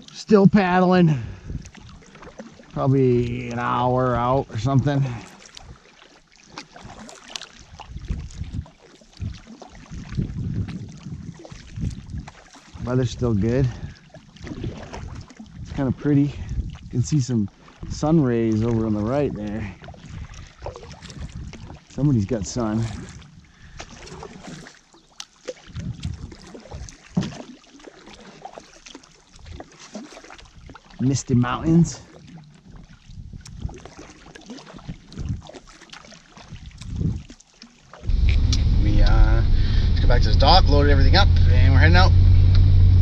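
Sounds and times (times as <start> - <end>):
canoe paddles through water: 0.0 - 43.0
small splashes and drips: 1.3 - 3.9, 4.6 - 38.6.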